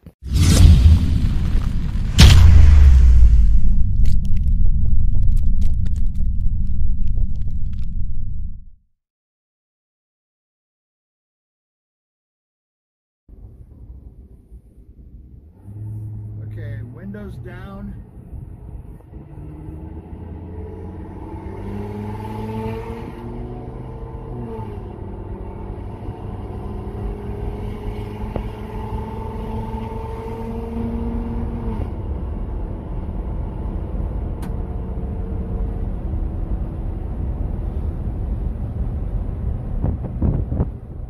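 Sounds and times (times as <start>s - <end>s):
road and wind noise: 2.9s - 8.7s, 13.3s - 41.0s.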